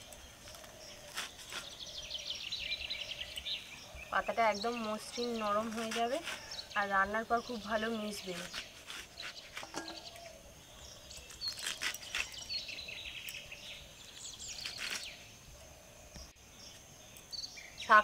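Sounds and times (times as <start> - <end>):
leaves cut with a blade: 0.0 - 3.6, 4.2 - 15.3
birds chirping: 0.0 - 18.0
faint insect drone: 0.0 - 18.0.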